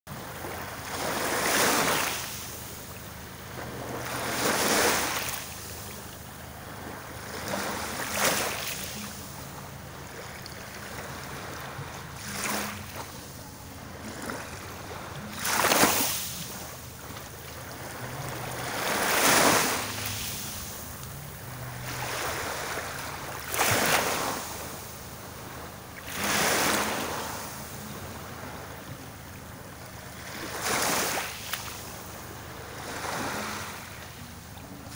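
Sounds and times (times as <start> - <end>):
small waves washing ashore: 0.1 - 34.9.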